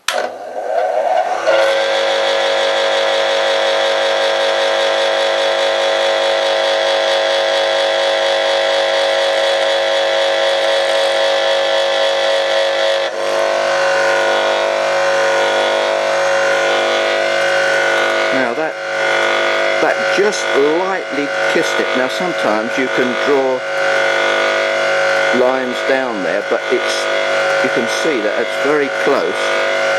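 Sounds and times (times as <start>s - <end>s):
electric grindstone humming with whine: 0.0s - 29.9s.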